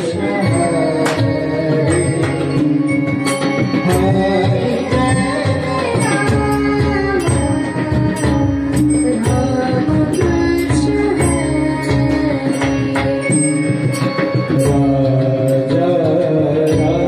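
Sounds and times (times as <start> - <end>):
hand drums drumming: 0.0 - 17.0.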